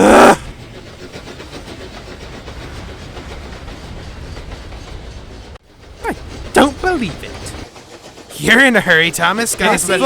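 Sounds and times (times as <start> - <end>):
steam engine running on track: 0.0 - 10.0.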